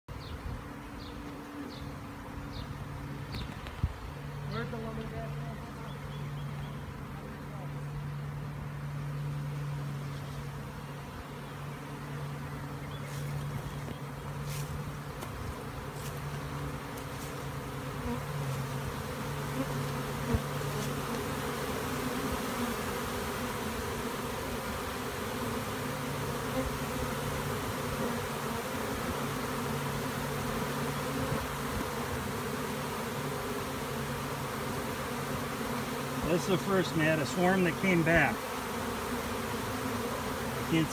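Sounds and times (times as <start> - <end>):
bee swarm humming: 0.1 - 40.9.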